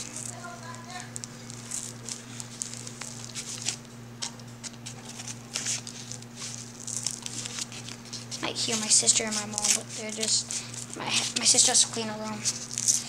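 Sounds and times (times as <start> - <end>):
plastic package crinkling: 0.0 - 13.0.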